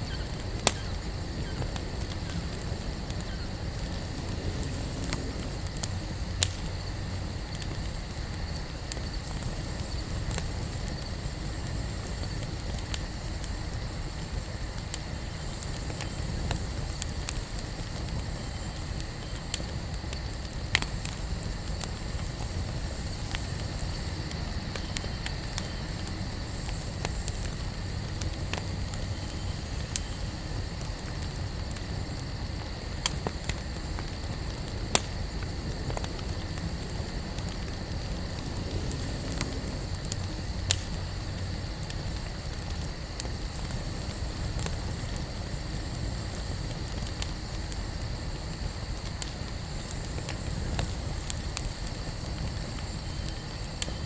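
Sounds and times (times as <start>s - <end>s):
burning wood popping: 0.0s - 54.0s
fire flames rustling: 0.0s - 54.0s
wood fire crackling: 0.0s - 54.0s.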